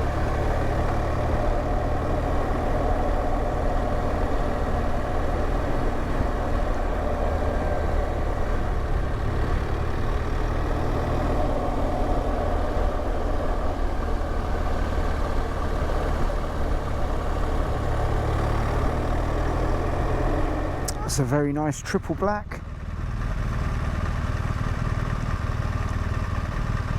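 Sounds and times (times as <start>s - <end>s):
motorcycle engine droning: 0.0s - 26.9s.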